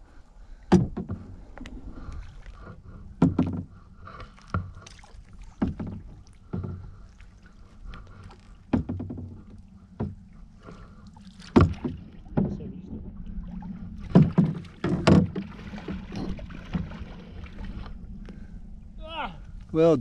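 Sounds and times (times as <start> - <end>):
low rumble of water: 0.0 - 20.0
paddle knocking against canoe hull: 0.7 - 1.8, 2.5 - 18.4.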